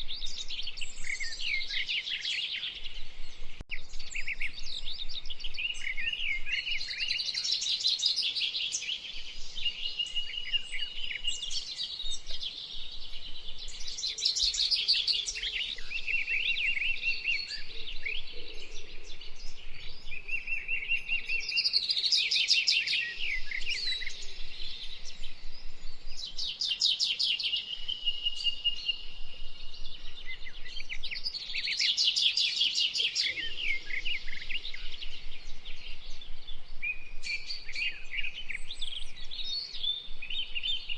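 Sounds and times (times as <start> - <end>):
bird trilling song: 0.0 - 40.9
songbirds calling: 0.0 - 40.9.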